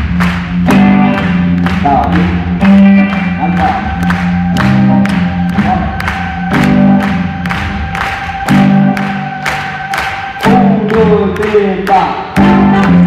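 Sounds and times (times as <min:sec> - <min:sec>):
bass line: 0:00.0 - 0:13.0
drum kit beat: 0:00.0 - 0:13.0.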